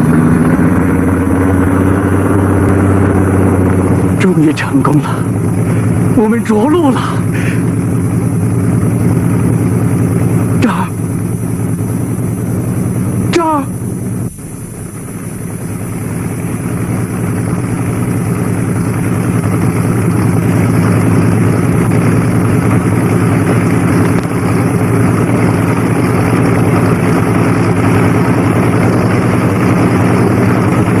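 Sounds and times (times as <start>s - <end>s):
propeller aircraft engine drone: 0.0s - 31.0s.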